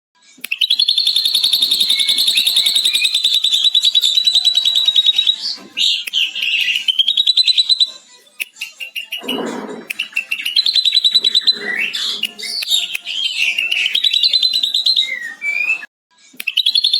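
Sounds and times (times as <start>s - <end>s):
bird notes: 0.5s - 15.9s
bird chattering trill: 0.6s - 15.2s.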